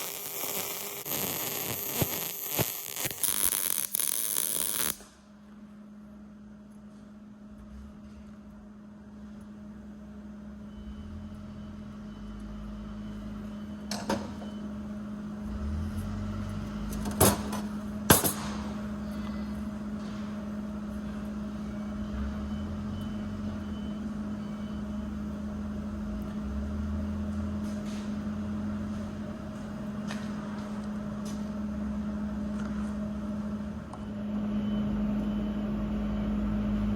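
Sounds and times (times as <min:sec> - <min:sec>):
steady machine hum: 0:00.0 - 0:36.9.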